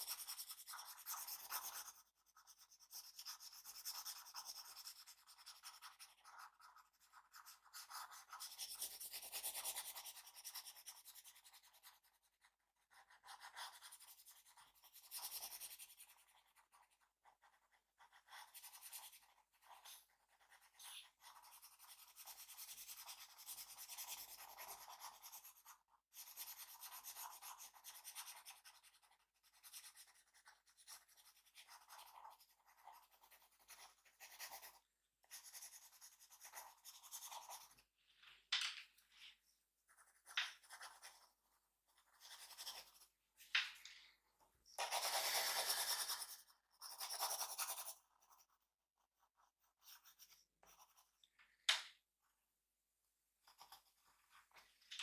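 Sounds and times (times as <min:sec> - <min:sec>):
drawing tool scratching paper: 0:00.0 - 0:37.8, 0:44.8 - 0:51.1.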